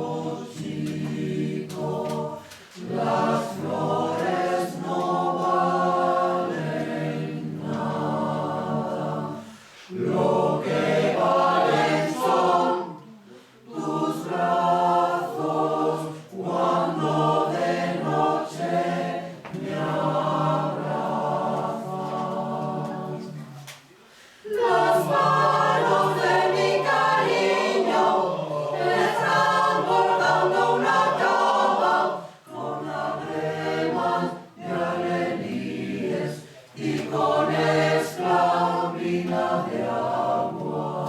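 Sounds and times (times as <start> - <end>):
choir singing unaccompanied: 0.0 - 23.7, 24.4 - 41.0.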